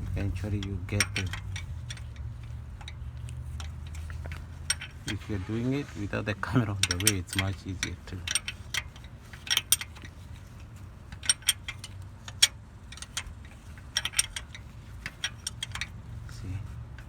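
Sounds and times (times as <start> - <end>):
ratchet wrench clicking: 0.0 - 17.0.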